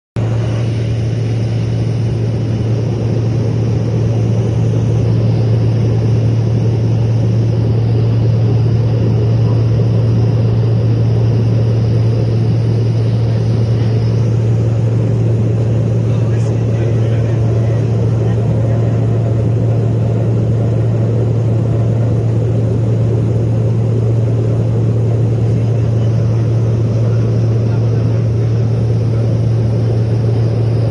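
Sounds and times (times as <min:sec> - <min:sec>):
aircraft engine drone: 0:00.2 - 0:30.9.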